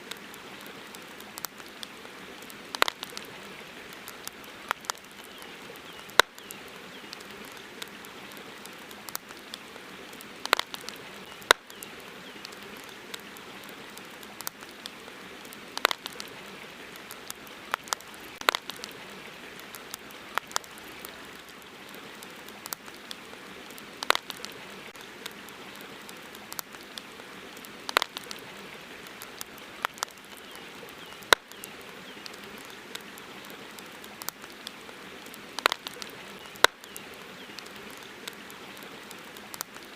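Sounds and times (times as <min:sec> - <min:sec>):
campfire crackling and popping: 0:00.0 - 0:39.9
steady background hiss: 0:00.0 - 0:39.9.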